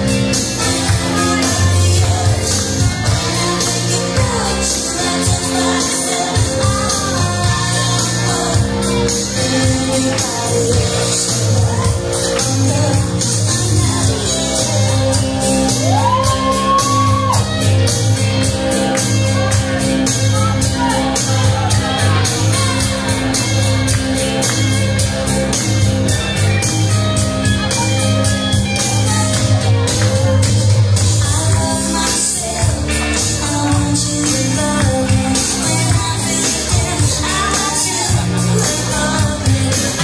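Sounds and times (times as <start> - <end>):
heavy bass line: 0.0 - 40.0
live band playing loud music: 0.0 - 40.0.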